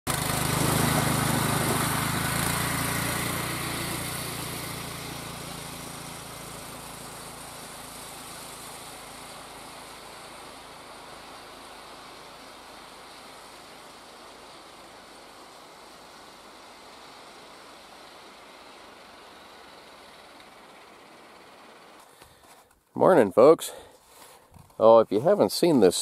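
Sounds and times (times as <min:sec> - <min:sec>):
small gas engine droning: 0:00.1 - 0:22.7.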